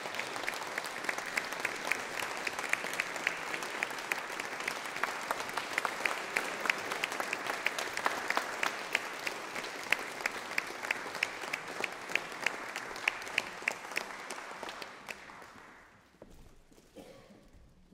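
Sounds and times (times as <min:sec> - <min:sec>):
sharp hand claps: 0:00.0 - 0:15.9
audience applauding: 0:00.0 - 0:16.1.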